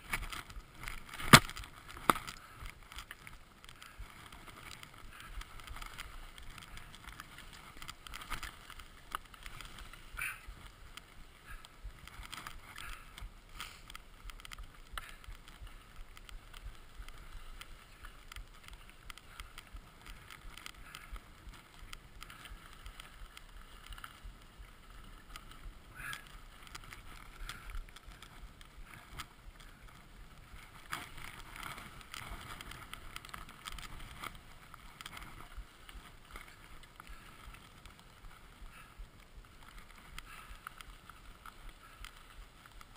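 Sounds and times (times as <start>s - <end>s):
skis swishing through powder snow: 0.0s - 42.9s.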